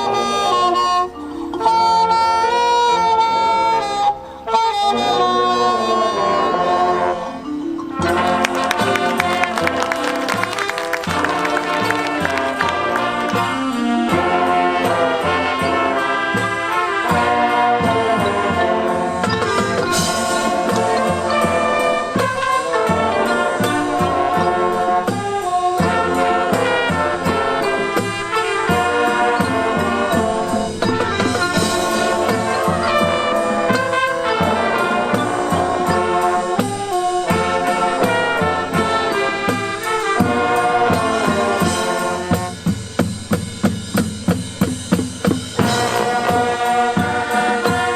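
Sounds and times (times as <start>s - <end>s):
brass section melody: 0.0s - 43.6s, 45.5s - 47.9s
marching band percussion: 7.8s - 47.9s.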